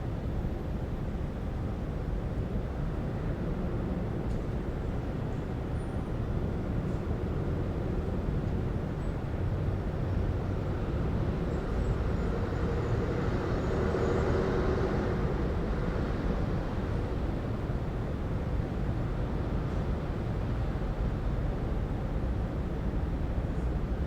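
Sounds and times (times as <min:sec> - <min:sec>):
low rumble of traffic: 0:00.0 - 0:24.0.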